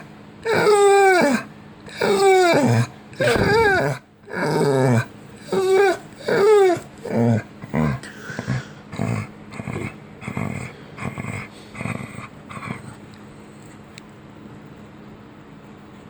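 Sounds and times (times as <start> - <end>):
dog growl-like vocal noises: 0.0 - 13.0.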